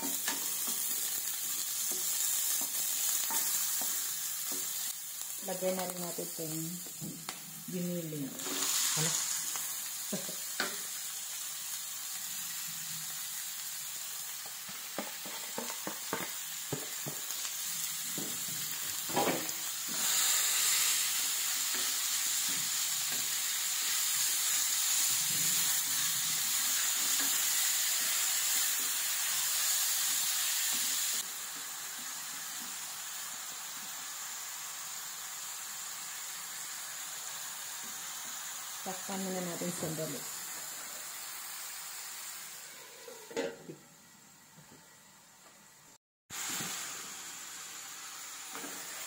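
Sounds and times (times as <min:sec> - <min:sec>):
meat sizzling in a frying pan: 0:00.0 - 0:43.4, 0:46.3 - 0:49.0.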